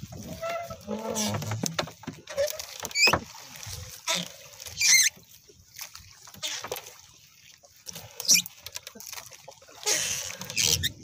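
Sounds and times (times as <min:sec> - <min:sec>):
net rustling against hull: 0:00.0 - 0:11.0
water splashing: 0:00.0 - 0:11.0.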